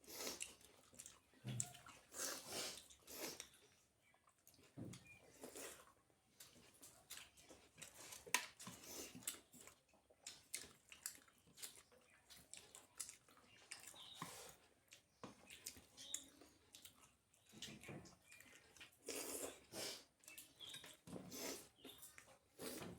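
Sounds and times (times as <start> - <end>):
person chewing and eating: 0.0 - 22.9.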